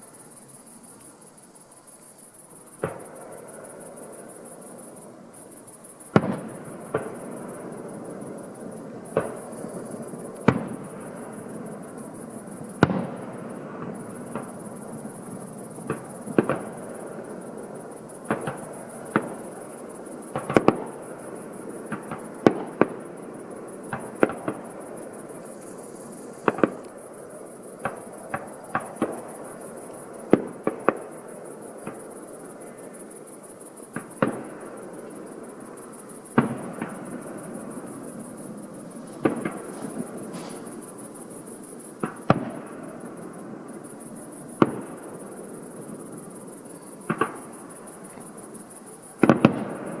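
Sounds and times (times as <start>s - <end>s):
steady background hiss: 0.0s - 50.0s
fireworks bangs: 2.8s - 4.2s, 6.1s - 17.3s, 18.2s - 23.2s, 23.8s - 25.5s, 26.4s - 32.1s, 33.9s - 35.2s, 36.0s - 50.0s.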